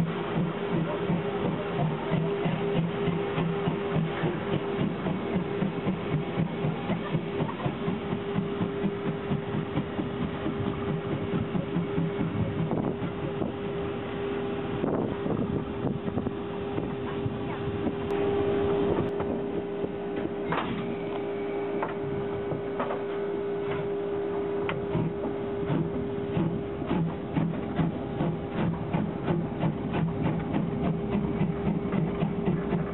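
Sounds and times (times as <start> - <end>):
constant hum: 0.0 - 32.9
steam locomotive exhaust beats: 0.0 - 32.9
steam locomotive running: 0.0 - 32.9.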